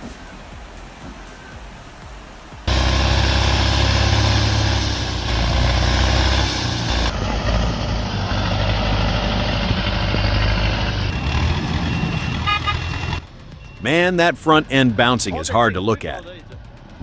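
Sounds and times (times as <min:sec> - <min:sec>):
heavy vehicle engine humming: 0:00.0 - 0:17.0.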